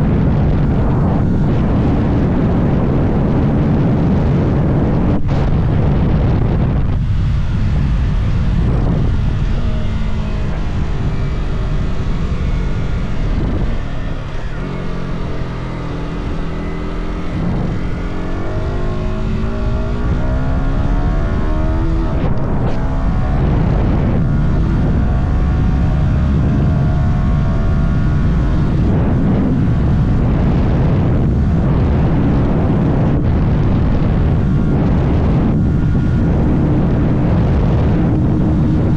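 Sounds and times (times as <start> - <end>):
motorcycle engine accelerating: 0.0 - 38.9
wind rush: 0.0 - 38.9.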